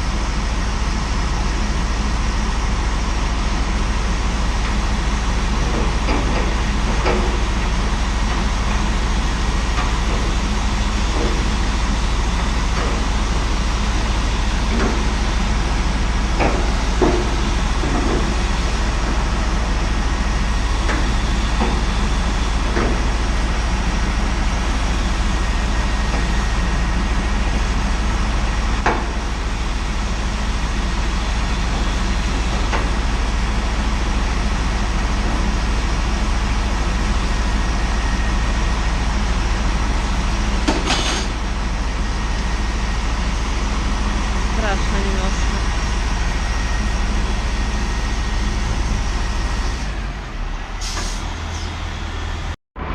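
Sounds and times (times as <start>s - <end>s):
steam unit low hum: 0.0s - 52.9s.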